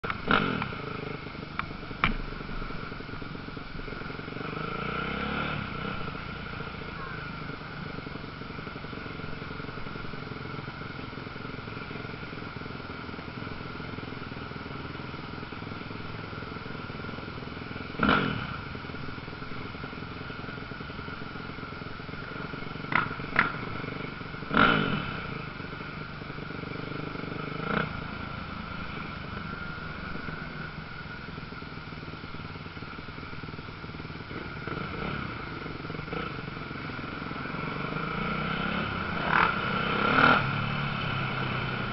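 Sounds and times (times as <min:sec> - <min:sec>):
motorcycle engine revving: 0:00.0 - 0:41.9
motorcycle engines running: 0:00.0 - 0:41.9.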